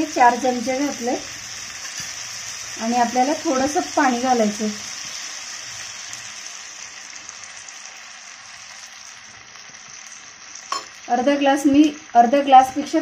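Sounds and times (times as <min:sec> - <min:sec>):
pan sizzling: 0:00.0 - 0:13.0.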